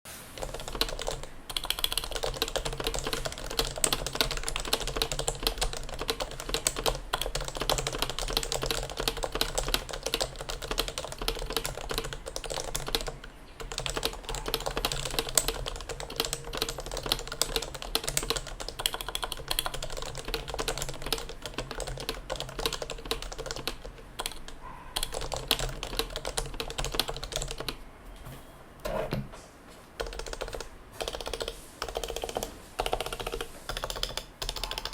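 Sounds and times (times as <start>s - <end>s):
fast typing on keyboard: 0.4s - 27.8s, 30.0s - 34.9s.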